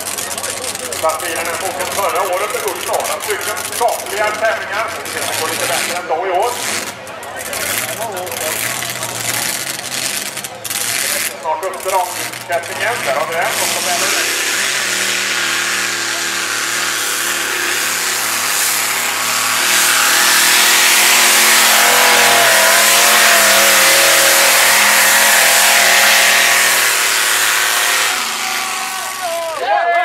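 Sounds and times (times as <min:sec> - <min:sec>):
high-revving car engine: 0:00.0 - 0:29.6.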